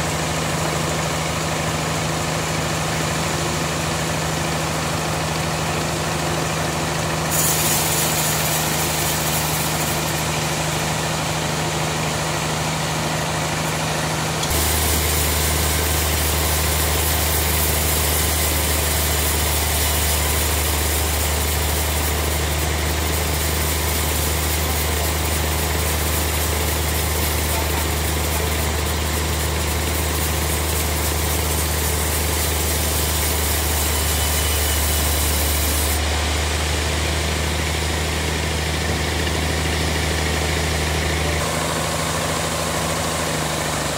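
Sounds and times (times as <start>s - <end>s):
band saw cutting log: 0.0s - 43.9s
sawmill machinery drone: 0.0s - 43.9s.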